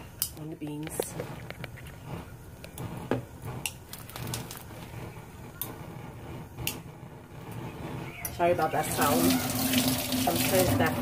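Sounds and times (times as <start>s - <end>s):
burner flame rumbling: 0.0s - 11.0s
gas burner clicking: 0.2s - 9.2s.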